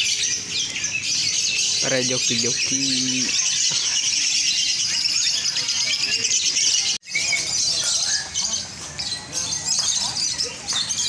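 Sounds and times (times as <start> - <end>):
lovebirds chirping and squawking: 0.0 - 11.0.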